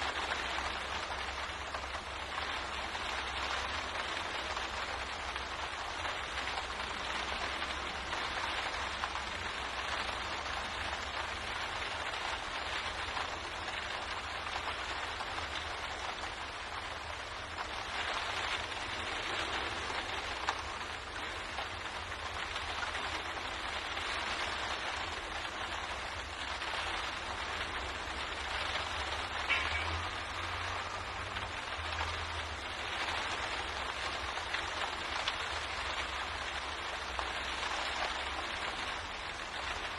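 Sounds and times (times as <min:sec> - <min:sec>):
louder raindrop taps: 0:00.0 - 0:39.9
rain pattering on a window: 0:00.0 - 0:39.9.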